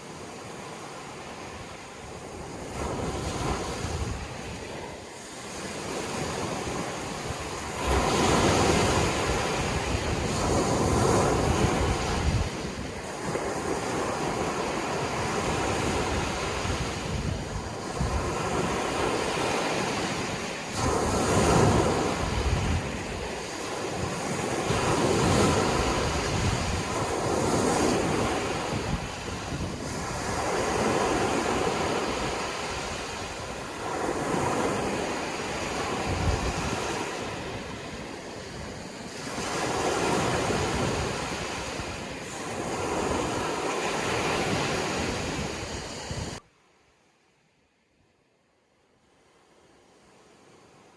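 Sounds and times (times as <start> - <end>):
sea waves breaking on shore: 0.0 - 46.5.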